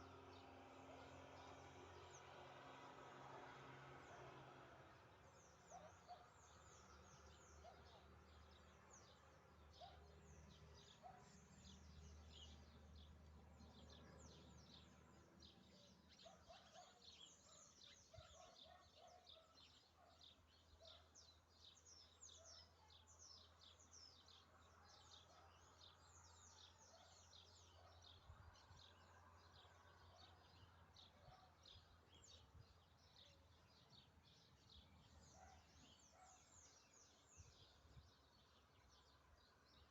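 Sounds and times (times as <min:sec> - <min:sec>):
birds chirping: 0:05.3 - 0:39.9.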